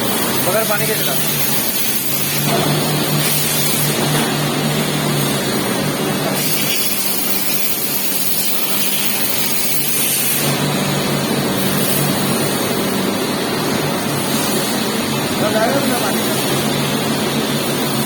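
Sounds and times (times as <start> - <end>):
machining centre running: 0.0 - 18.0.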